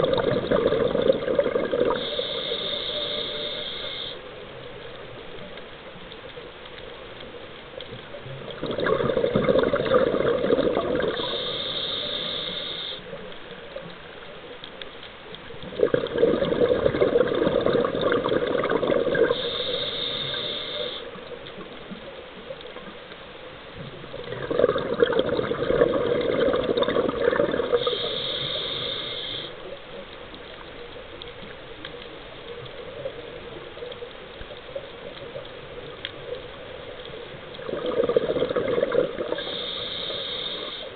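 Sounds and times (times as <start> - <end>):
underwater air bubbles: 0.0 - 40.9.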